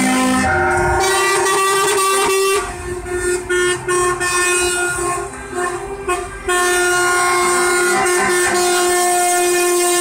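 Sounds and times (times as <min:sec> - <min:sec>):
truck air horn blasts: 0:00.0 - 0:10.0.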